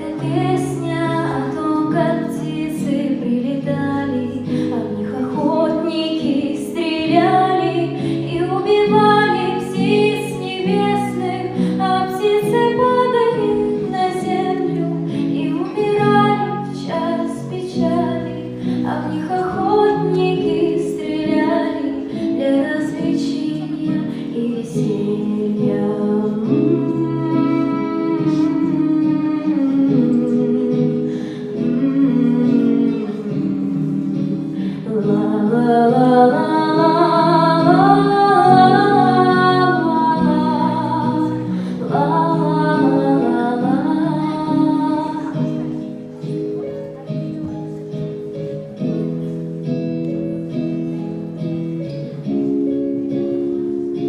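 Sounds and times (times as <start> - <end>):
person singing wordless melody: 0.0 - 49.4
acoustic guitar chords: 0.0 - 54.0.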